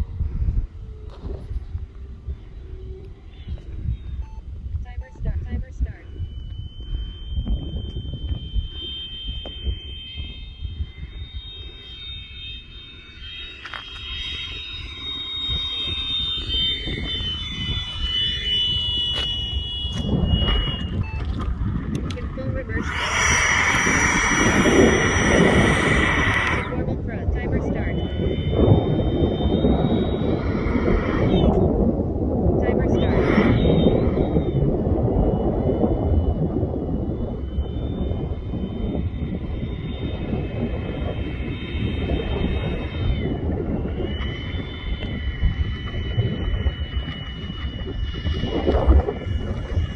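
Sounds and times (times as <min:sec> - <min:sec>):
electric ducted fan whining: 0:00.0 - 0:49.9
wind rumble on microphone: 0:00.0 - 0:49.9.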